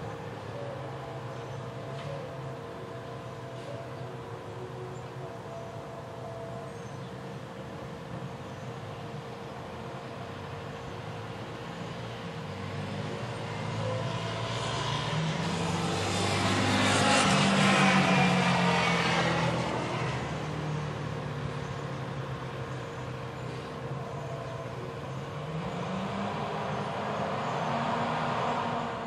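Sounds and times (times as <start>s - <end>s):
garbage truck diesel engine: 0.0s - 29.0s.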